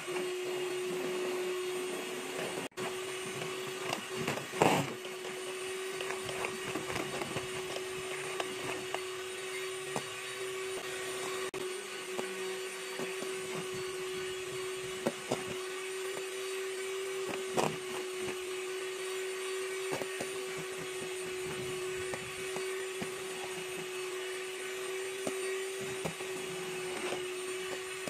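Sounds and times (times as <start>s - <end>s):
electric hand mixer whining: 0.0s - 28.0s.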